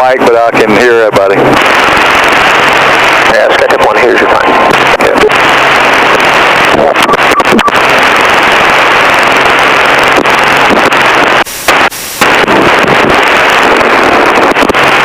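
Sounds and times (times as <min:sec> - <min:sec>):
radio static rushing: 0:00.0 - 0:15.0.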